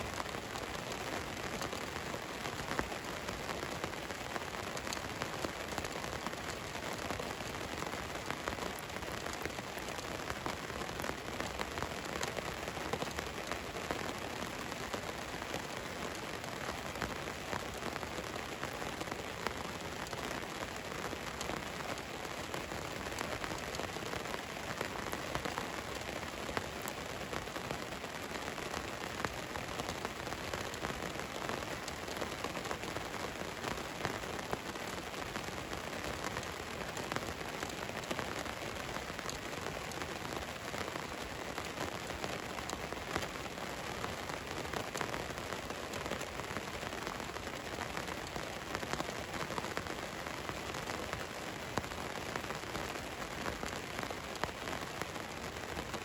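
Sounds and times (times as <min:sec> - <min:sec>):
rain on a van: 0:00.0 - 0:56.0.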